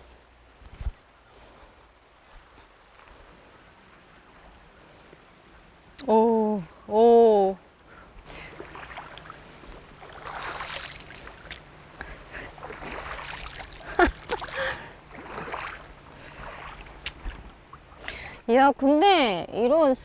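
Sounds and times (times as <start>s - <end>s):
boots wading through stream: 0.0s - 6.0s, 6.7s - 18.6s
running water: 0.0s - 20.0s.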